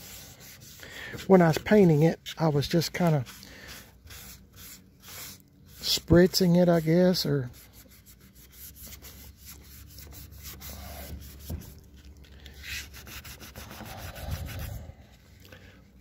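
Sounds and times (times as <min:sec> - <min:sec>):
paper towel scrubbing painted metal: 0:00.0 - 0:11.8, 0:12.6 - 0:14.8.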